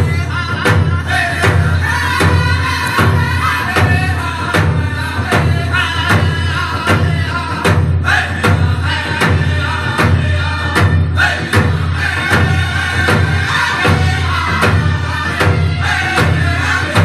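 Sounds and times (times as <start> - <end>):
song with singing over a beat: 0.0 - 17.0.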